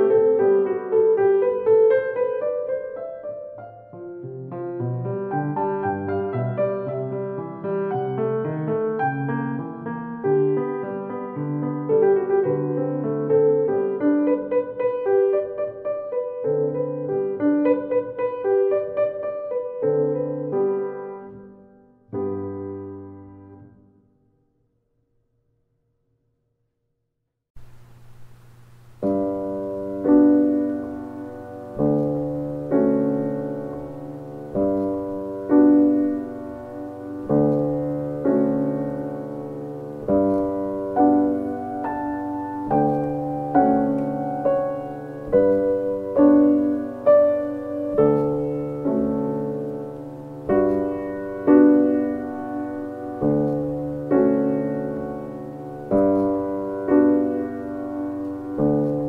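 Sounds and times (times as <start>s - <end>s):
slow gentle piano music: 0.0s - 24.4s, 27.6s - 59.0s.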